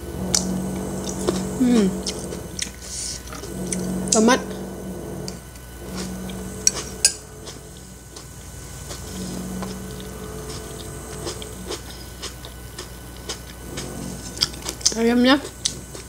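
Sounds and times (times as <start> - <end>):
low steady hums: 0.0 - 16.0.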